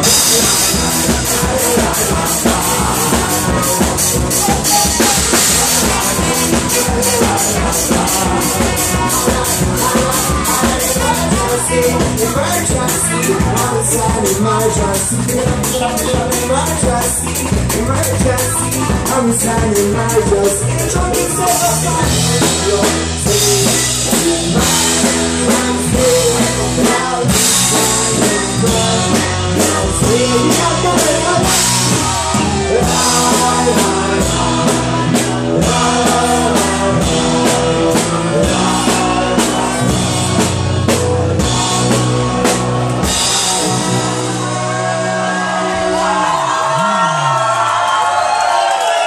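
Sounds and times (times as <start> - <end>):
person singing: 0.0 - 47.6
live band playing: 0.0 - 49.0.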